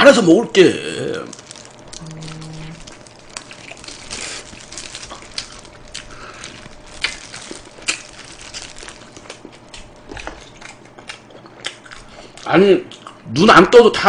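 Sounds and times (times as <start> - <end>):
man chewing crunchy food: 1.0 - 13.3.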